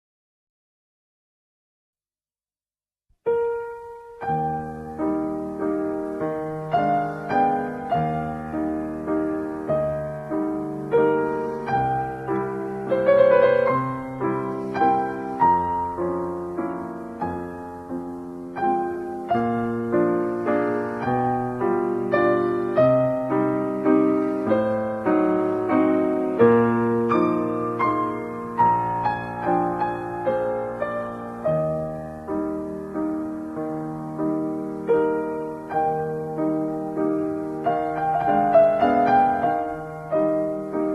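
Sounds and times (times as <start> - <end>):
piano music: 3.2 - 40.9.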